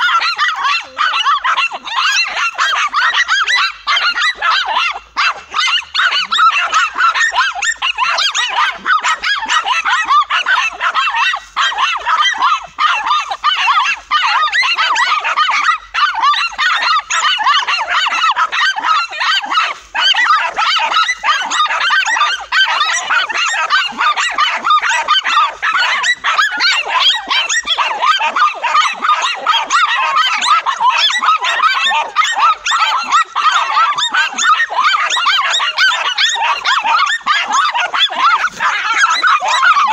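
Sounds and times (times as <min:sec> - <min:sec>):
dogs barking and yelping: 0:00.0 - 0:39.9.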